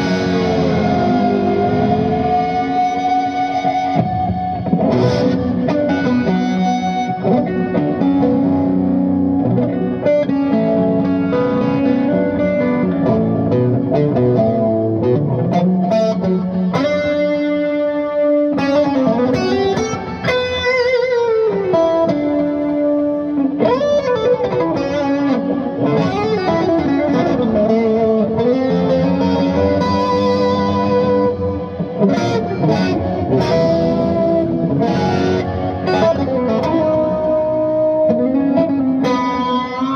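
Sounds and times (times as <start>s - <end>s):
electric guitar lead lines: 0.0s - 39.9s
ringing guitar chord: 0.0s - 39.9s.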